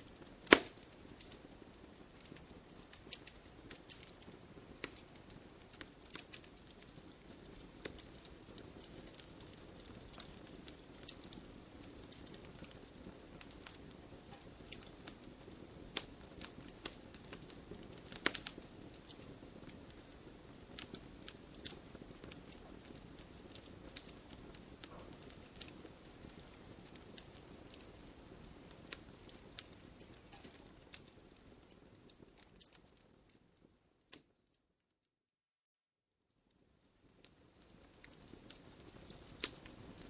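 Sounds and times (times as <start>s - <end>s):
campfire wood crackling: 0.0s - 34.4s, 36.5s - 40.0s.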